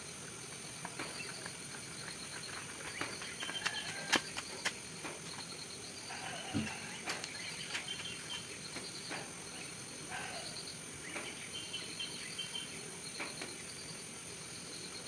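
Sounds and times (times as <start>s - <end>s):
background hiss: 0.0s - 15.0s
insects chirping in trills: 0.0s - 15.0s
bird calls: 0.8s - 13.8s.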